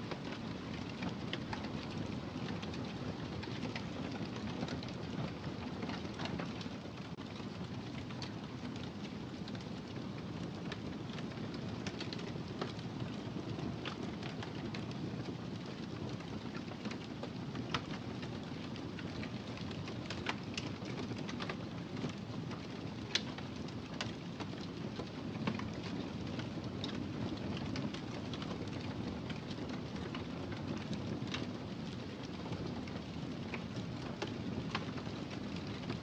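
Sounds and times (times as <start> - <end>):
wood fire crackling and popping: 0.1 - 36.0.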